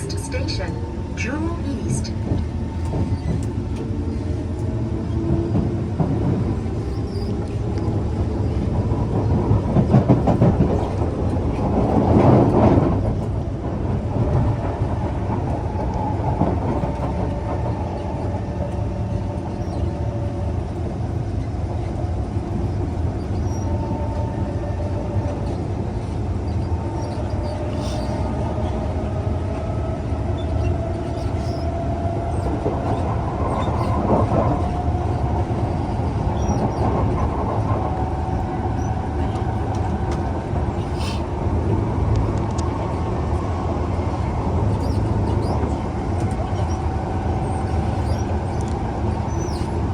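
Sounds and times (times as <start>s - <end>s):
train drive whining: 0.0s - 49.9s
train wheels rumbling: 0.0s - 49.9s.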